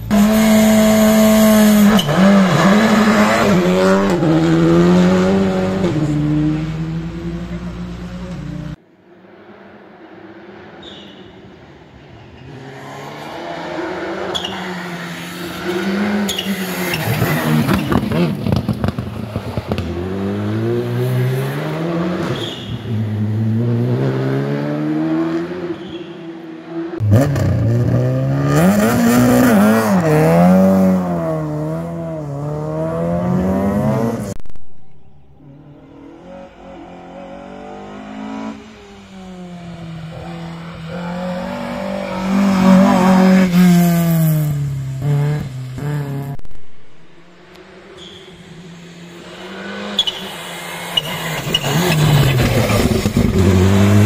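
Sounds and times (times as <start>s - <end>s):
rally cars passing at full throttle: 0.0s - 34.4s, 35.4s - 54.0s.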